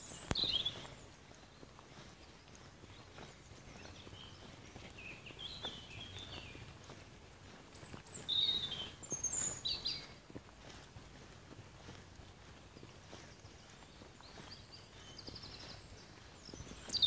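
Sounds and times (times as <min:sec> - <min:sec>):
footsteps on dirt track: 0:00.0 - 0:17.0
songbird singing: 0:00.0 - 0:17.0.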